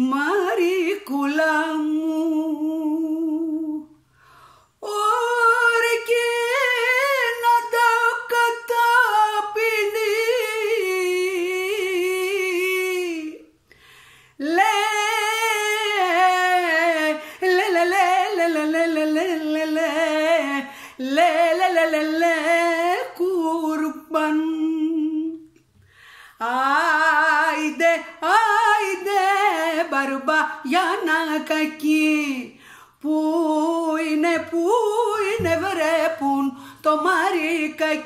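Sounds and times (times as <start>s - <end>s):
woman singing unaccompanied: 0.0s - 4.0s, 4.8s - 13.5s, 14.4s - 25.6s, 26.4s - 38.0s.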